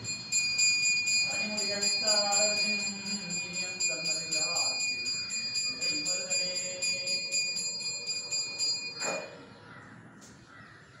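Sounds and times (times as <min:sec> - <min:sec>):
bell rung rapidly: 0:00.0 - 0:09.4.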